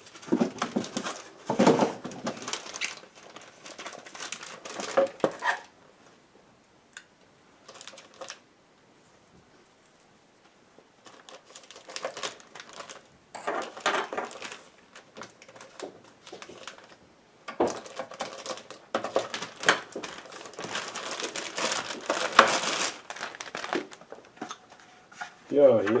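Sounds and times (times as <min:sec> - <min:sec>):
plastic bag crinkling: 0:00.0 - 0:05.8, 0:07.6 - 0:08.4, 0:11.0 - 0:25.6.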